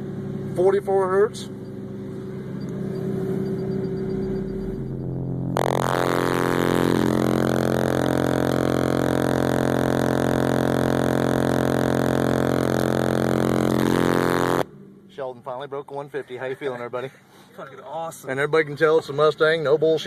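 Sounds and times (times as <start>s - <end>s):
subwoofer droning buzz: 0.0s - 16.5s.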